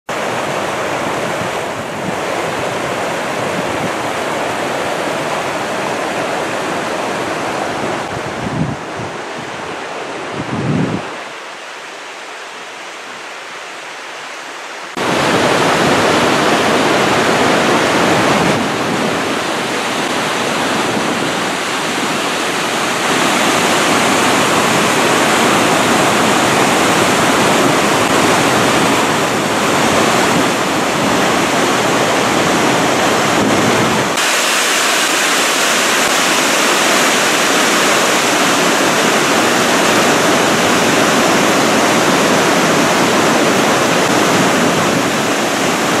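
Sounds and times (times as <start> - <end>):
waterfall rushing over rocks: 0.1 - 46.0.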